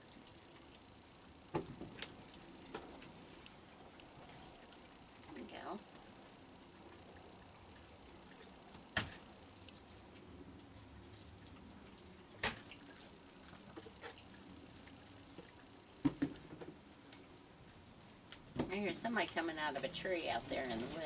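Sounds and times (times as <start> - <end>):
faint steady background: 0.0 - 21.0.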